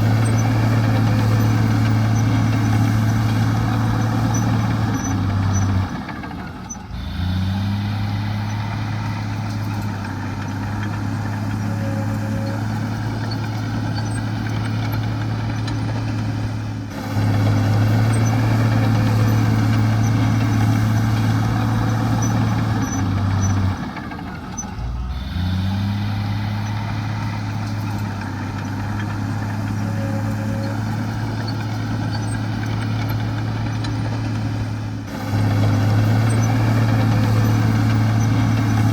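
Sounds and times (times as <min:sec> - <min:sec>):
diesel earthmoving machinery running: 0:00.0 - 0:38.9.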